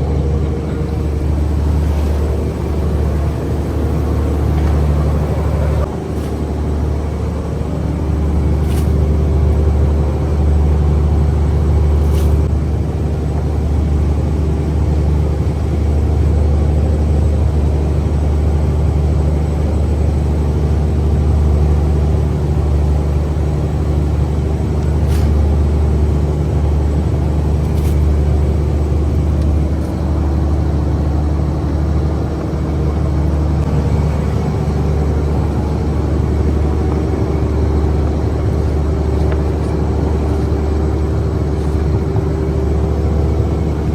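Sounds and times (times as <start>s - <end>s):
boat engine droning: 0.0s - 43.9s.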